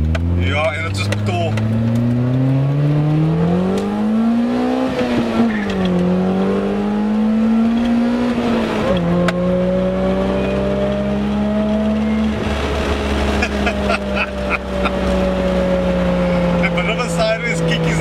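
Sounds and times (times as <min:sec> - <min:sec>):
car engine revving through gears: 0:00.0 - 0:18.0.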